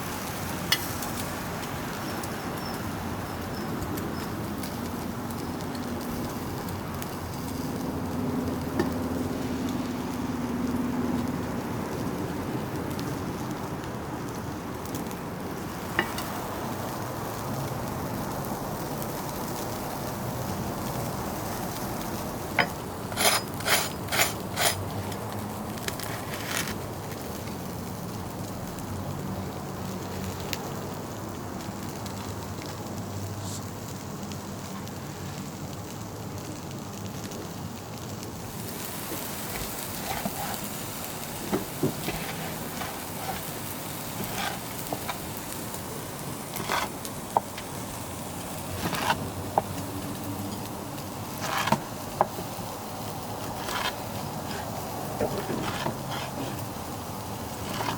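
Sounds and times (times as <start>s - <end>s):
meat sizzling on a grill: 0.0s - 57.9s.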